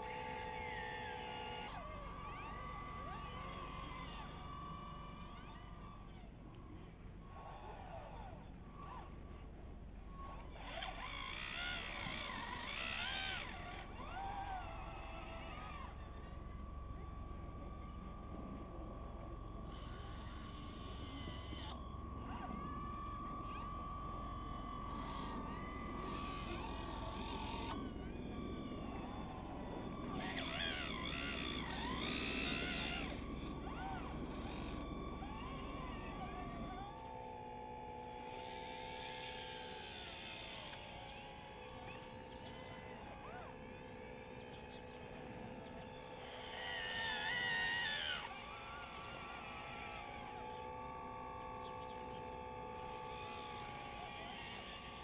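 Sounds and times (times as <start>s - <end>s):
electric motor whine: 0.0s - 55.0s.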